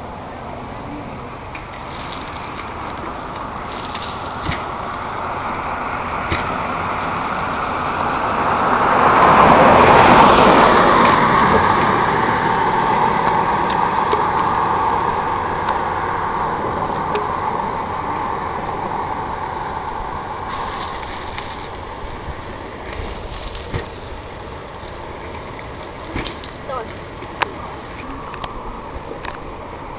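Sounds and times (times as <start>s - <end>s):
vehicle passing by: 0.0s - 29.9s.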